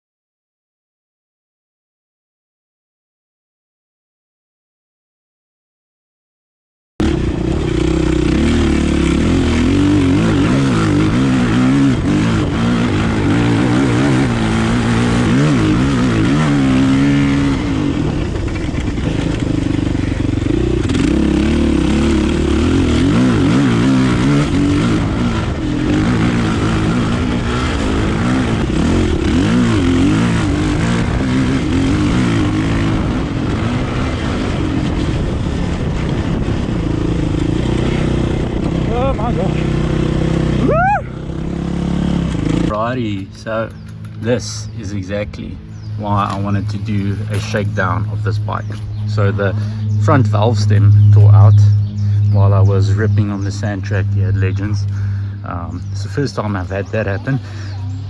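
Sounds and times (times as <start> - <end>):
dirt bike engine revving: 7.0 - 58.0.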